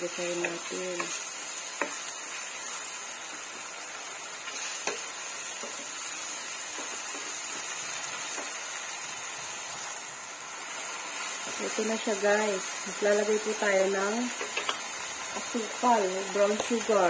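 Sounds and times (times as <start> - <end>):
food sizzling in pan: 0.0 - 17.0.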